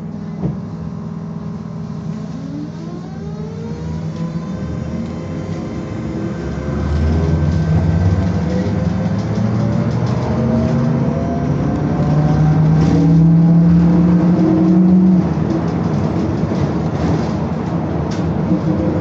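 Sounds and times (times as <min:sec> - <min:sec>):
trolleybus electric motor whining: 0:00.0 - 0:19.0.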